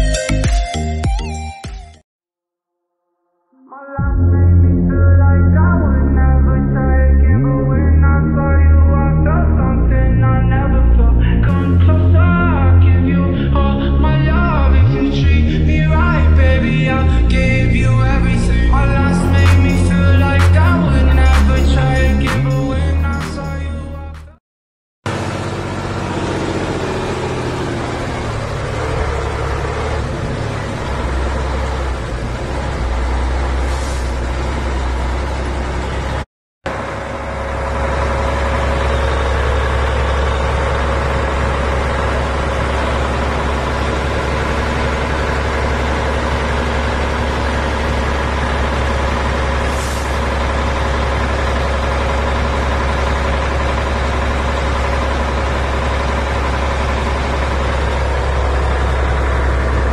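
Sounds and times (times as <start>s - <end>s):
truck diesel engine droning: 3.8s - 24.4s, 25.1s - 59.9s.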